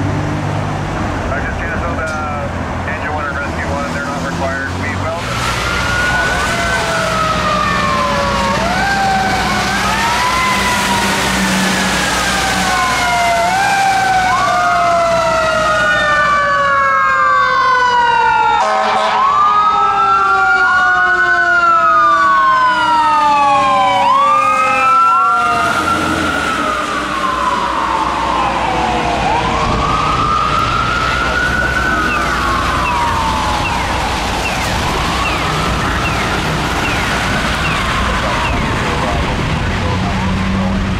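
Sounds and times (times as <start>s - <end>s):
fire engine siren wailing: 0.0s - 40.9s
slower falling siren tone: 5.8s - 39.0s.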